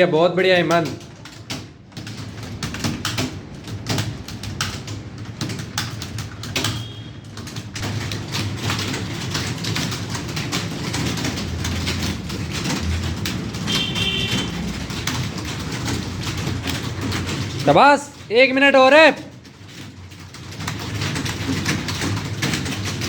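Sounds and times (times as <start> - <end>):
computer keyboards clattering: 0.0 - 23.0.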